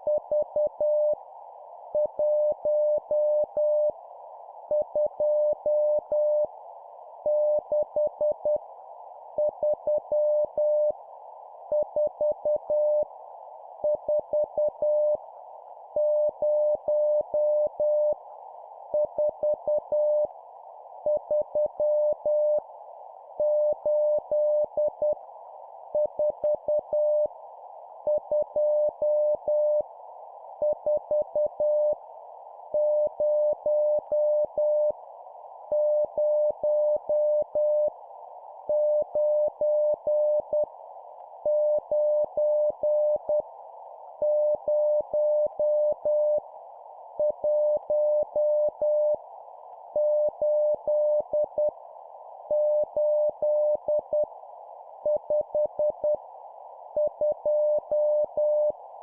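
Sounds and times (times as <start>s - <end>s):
receiver hiss: 0.0s - 59.0s.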